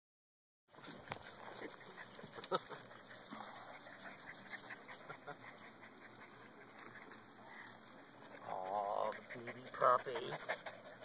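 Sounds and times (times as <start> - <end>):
puppies panting: 0.7 - 11.0
faint clicks and rustles: 0.8 - 9.7.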